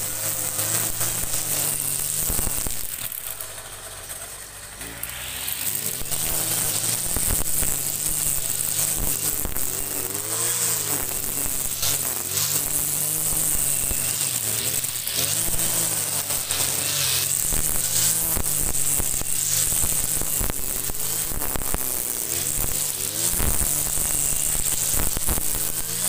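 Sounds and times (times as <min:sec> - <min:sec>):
brush cutter engine cutting grass: 0:00.0 - 0:26.0.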